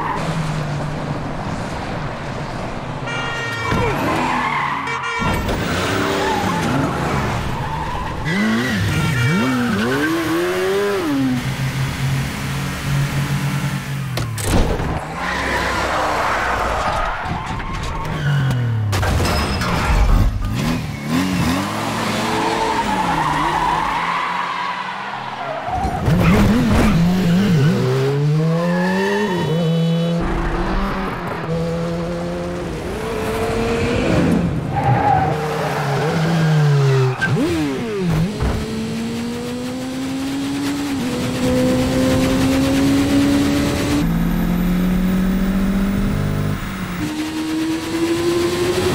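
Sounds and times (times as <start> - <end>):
car engines revving: 3.7 - 19.0, 20.0 - 48.9.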